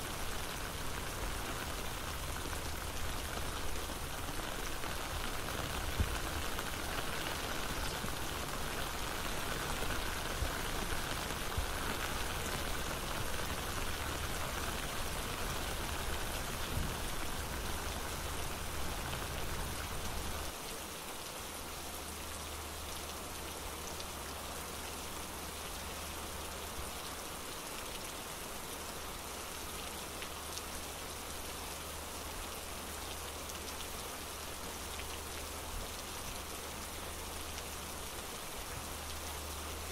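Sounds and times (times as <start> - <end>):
rain falling on an umbrella: 0.0 - 39.9.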